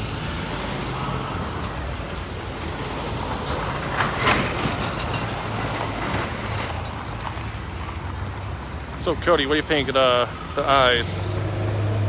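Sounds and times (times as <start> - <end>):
broad rushing noise: 0.0 - 12.0
vehicle engine humming: 0.0 - 12.0.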